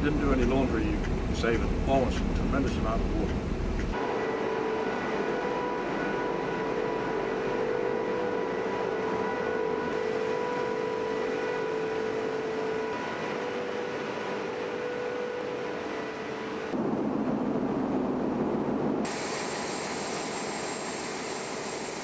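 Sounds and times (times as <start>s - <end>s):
engine-room machinery drone: 0.0s - 16.9s, 19.0s - 22.0s
machinery whine: 0.0s - 18.2s, 19.1s - 22.0s.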